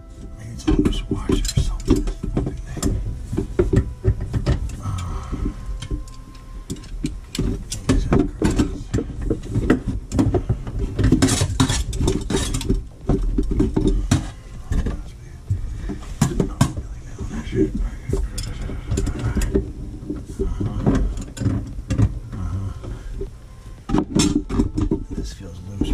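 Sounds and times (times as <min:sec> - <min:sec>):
low handling rumble: 0:00.0 - 0:25.9.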